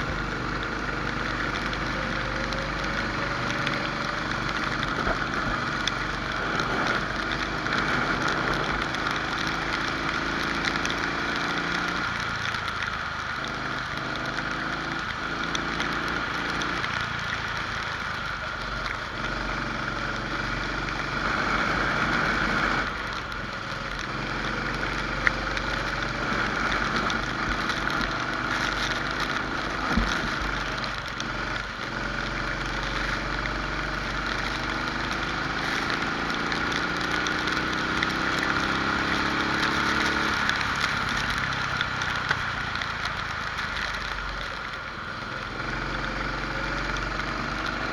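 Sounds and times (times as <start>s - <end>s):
kart engine revving: 0.0s - 47.9s.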